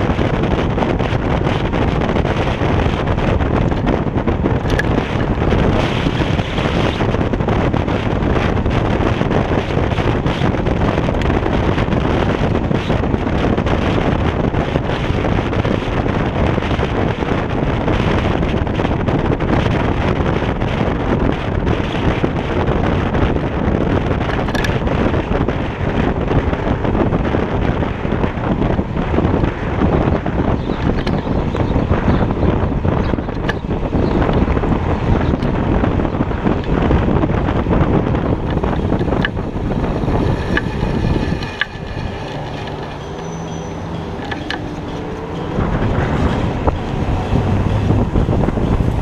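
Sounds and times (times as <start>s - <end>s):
scooter road rumble: 0.0s - 49.0s
wind buffeting microphone: 0.0s - 49.0s.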